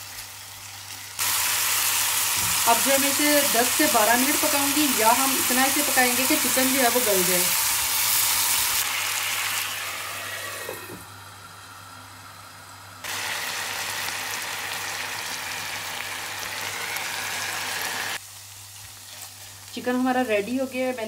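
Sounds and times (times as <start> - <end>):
chicken sizzling in oil: 0.0 - 10.7, 13.0 - 21.0.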